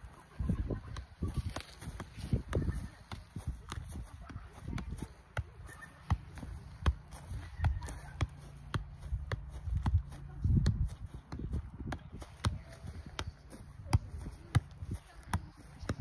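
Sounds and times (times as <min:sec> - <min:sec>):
volleyball kicked with dull thuds: 0:00.4 - 0:16.0.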